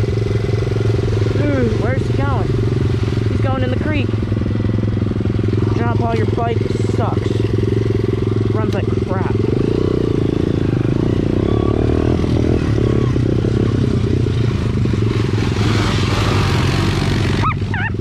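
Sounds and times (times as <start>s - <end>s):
dirt bike engine idling: 0.0s - 18.0s
water splashing: 0.1s - 18.0s.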